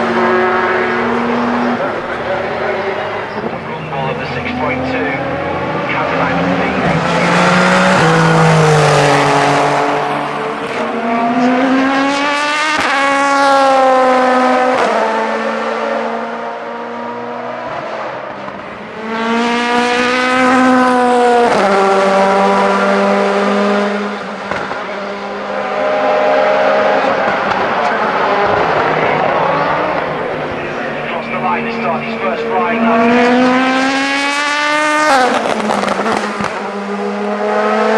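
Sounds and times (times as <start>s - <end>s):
race cars accelerating: 0.0s - 37.9s.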